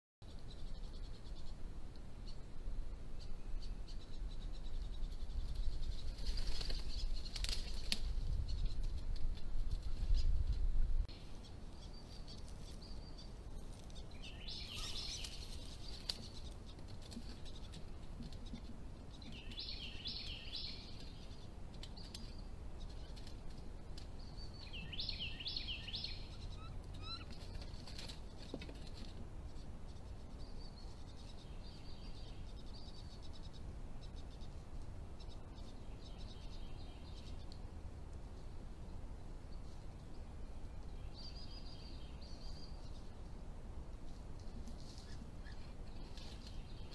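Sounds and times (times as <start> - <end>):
songbird singing: 0.2 - 46.9.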